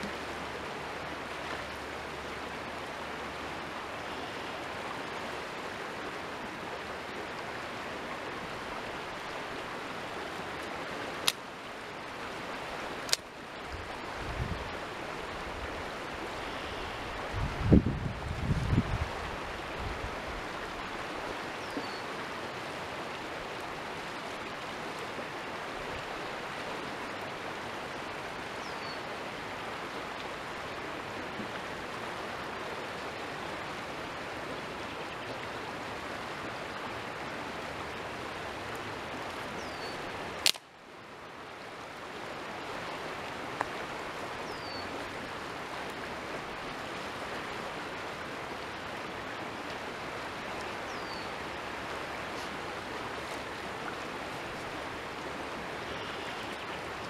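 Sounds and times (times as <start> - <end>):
flowing creek water: 0.0 - 57.0.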